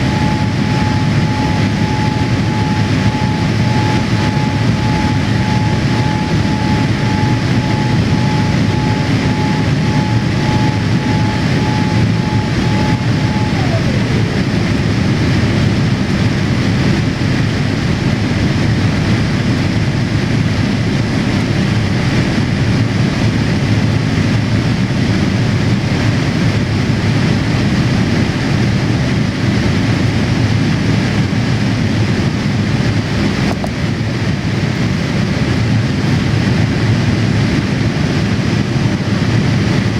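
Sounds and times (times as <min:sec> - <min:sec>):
airliner cabin rumble: 0:00.0 - 0:39.9
engine whine: 0:00.0 - 0:39.9.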